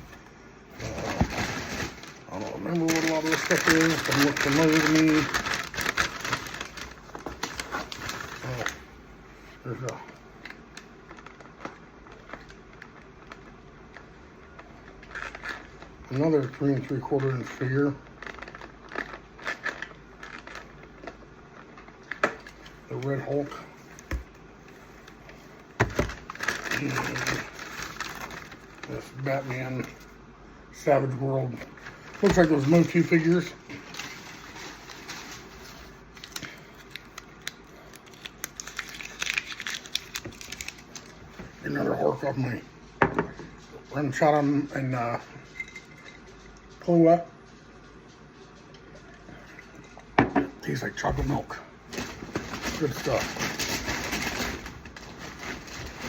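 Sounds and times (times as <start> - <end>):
plastic and cardboard packaging crinkling: 0.0 - 30.2, 31.6 - 42.6, 50.6 - 56.0.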